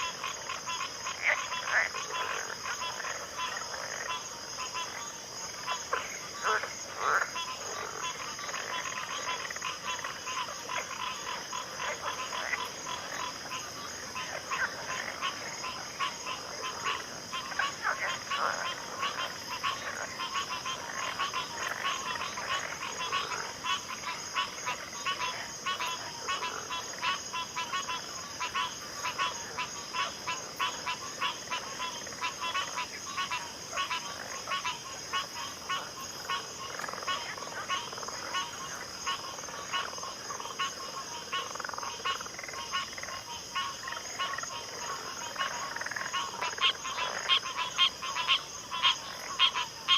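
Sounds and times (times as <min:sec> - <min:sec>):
frogs croaking: 0:00.0 - 0:49.9.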